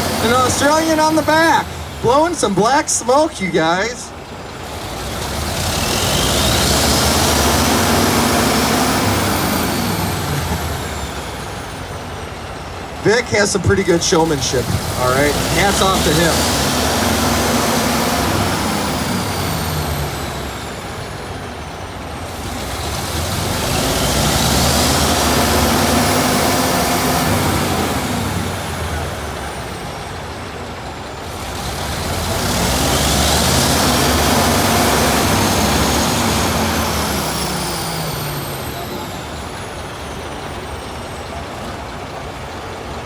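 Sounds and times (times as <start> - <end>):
diesel engines revving: 0.0 - 43.0
turbocharger whine: 0.0 - 43.0.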